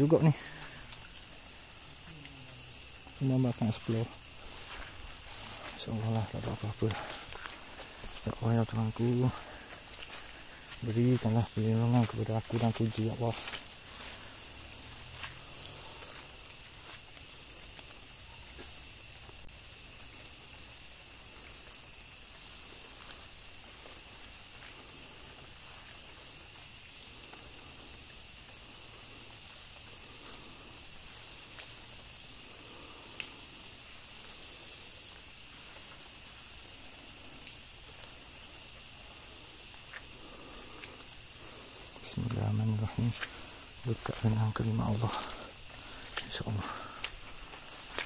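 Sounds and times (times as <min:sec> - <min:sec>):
night insects trilling: 0:00.0 - 0:48.0
rustling in undergrowth: 0:00.0 - 0:48.0.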